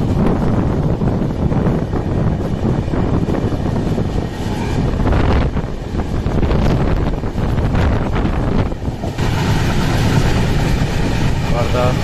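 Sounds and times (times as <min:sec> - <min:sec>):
train wheels rumbling on rails: 0:00.0 - 0:12.0
wind buffeting microphone: 0:00.0 - 0:12.0.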